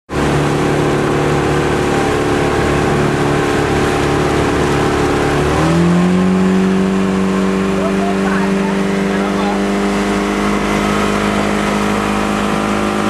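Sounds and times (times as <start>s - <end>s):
outboard motor running: 0.1s - 13.0s
water rushing from wake: 0.1s - 13.0s.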